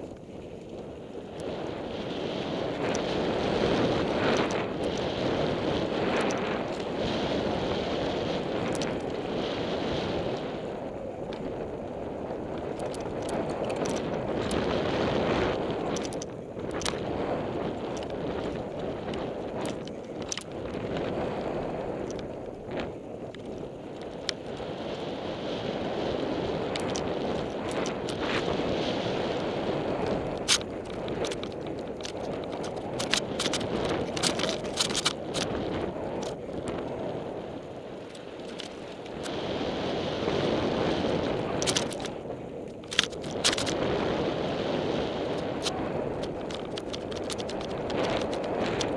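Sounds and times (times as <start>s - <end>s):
bike clicks and rattles: 0.0s - 48.9s
tyres on dirt: 0.0s - 48.9s
wind rushing over microphone: 0.0s - 48.9s.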